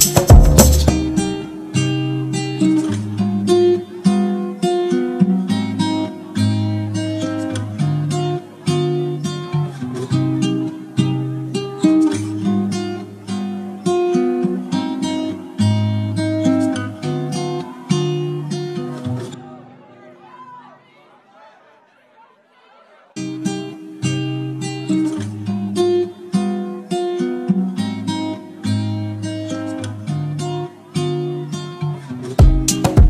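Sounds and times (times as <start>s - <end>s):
acoustic guitar plucked notes: 0.0s - 19.8s, 23.2s - 33.0s.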